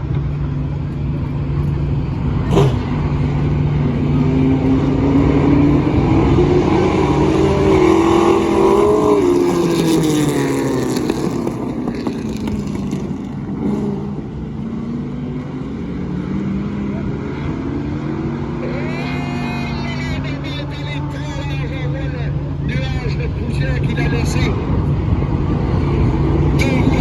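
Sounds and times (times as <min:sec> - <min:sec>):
race car engines passing by: 0:00.0 - 0:27.0.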